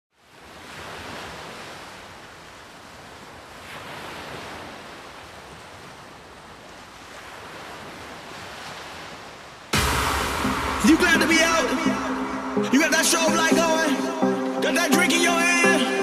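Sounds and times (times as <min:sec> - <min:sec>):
sea surf waves: 0:00.2 - 0:16.0.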